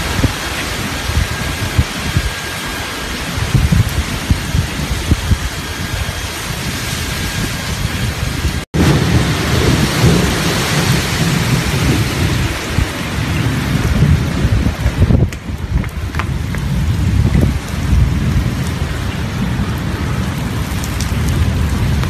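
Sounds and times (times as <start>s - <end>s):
heavy rain hissing: 0.0s - 22.0s
wind buffeting microphone: 0.0s - 22.0s.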